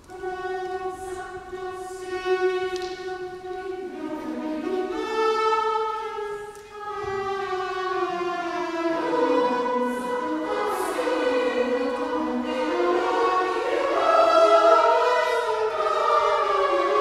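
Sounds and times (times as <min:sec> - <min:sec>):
choir and string orchestra: 0:00.0 - 0:17.0.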